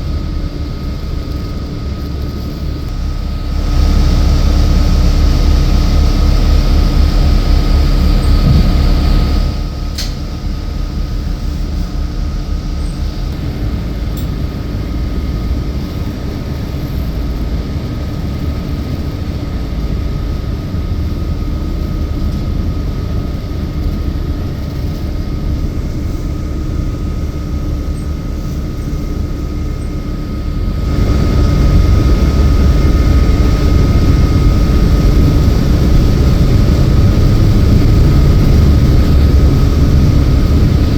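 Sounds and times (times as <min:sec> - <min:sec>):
bus engine and road rumble: 0:00.0 - 0:40.9
steady high hum: 0:00.0 - 0:40.9.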